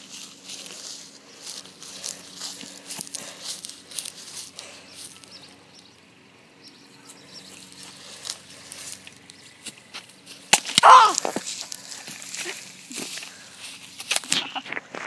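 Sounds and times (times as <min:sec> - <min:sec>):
footsteps on grass: 0:00.0 - 0:05.9, 0:06.9 - 0:15.0
faint steady hum: 0:00.0 - 0:15.0.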